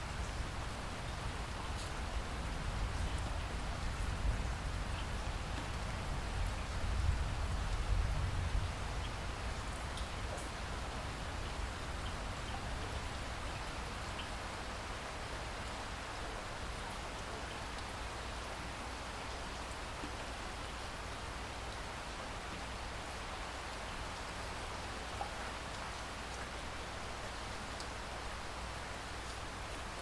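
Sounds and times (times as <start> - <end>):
raindrops pattering: 0.0 - 30.0
steady rain hiss: 0.0 - 30.0.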